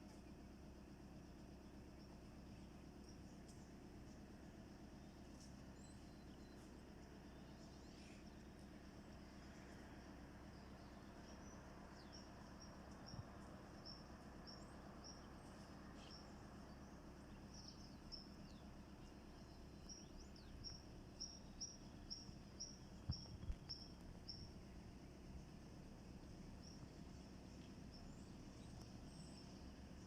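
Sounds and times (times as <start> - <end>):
faint high-pitched chirping: 0.0 - 30.0.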